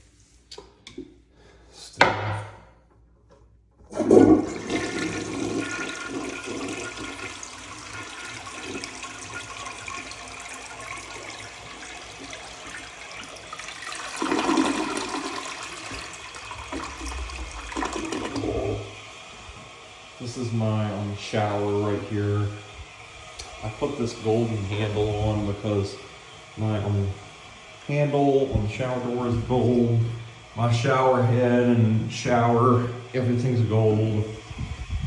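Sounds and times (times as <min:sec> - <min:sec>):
toilet flushing: 0:03.8 - 0:35.0.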